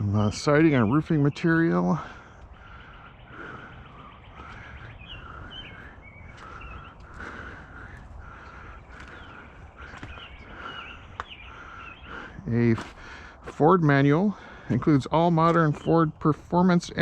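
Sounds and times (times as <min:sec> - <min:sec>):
birds calling: 0:00.0 - 0:17.0
faint outdoor background noise: 0:00.0 - 0:17.0.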